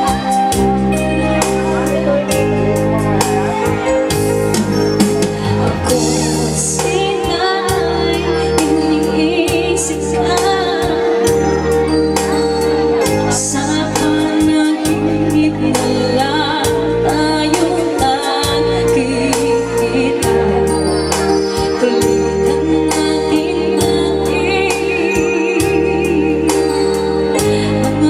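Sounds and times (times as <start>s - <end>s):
woman singing over keyboard music: 0.0s - 28.0s.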